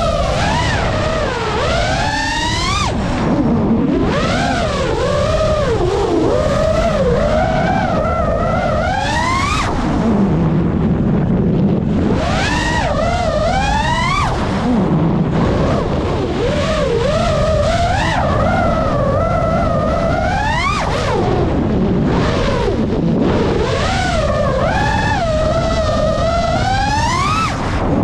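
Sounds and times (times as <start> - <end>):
drone motors and propellers whining: 0.0 - 28.0.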